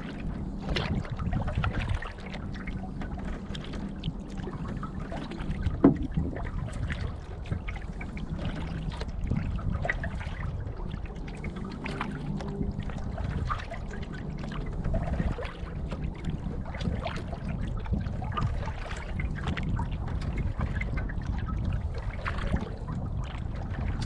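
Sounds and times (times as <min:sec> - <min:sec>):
waves lapping against canoe hull: 0:00.0 - 0:24.0
wind rumble on microphone: 0:00.0 - 0:24.0.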